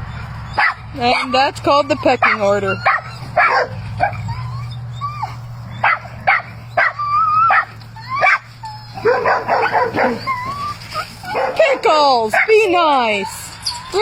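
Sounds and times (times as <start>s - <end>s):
dogs barking and yipping: 0.0s - 14.0s
dogs whining: 0.0s - 14.0s.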